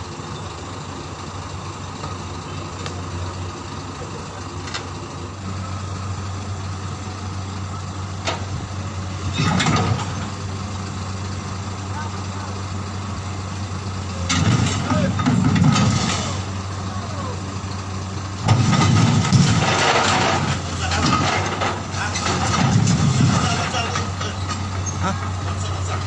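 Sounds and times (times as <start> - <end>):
heavy vehicle engine idling: 0.0 - 26.0.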